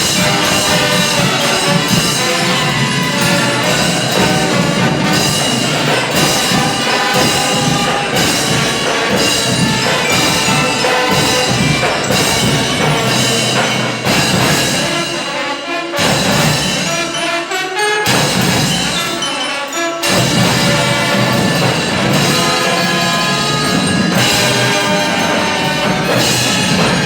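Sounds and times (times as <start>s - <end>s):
music with steady beat: 0.0s - 27.0s.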